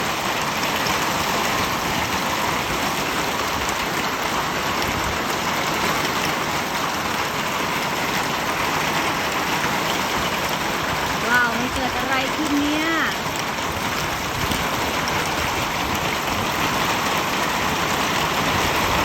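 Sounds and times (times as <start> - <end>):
hailstones falling: 0.0 - 19.0.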